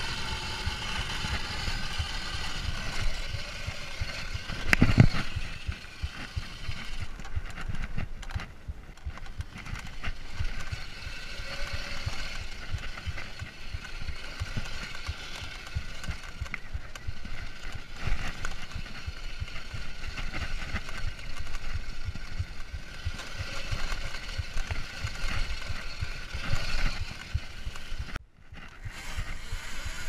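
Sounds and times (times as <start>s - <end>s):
wind buffeting: 0.0s - 28.2s
bike knocking and rattling: 0.0s - 30.0s
electric motor whine: 0.0s - 30.0s.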